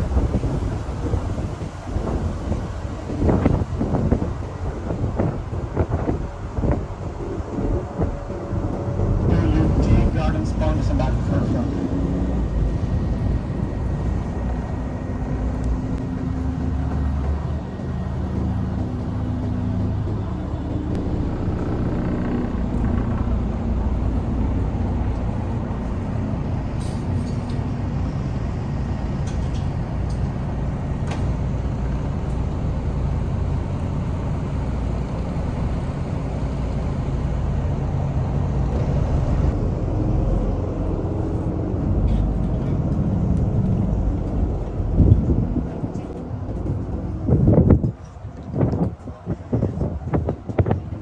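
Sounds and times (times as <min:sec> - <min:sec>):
ferry engines droning: 0:00.0 - 0:51.0.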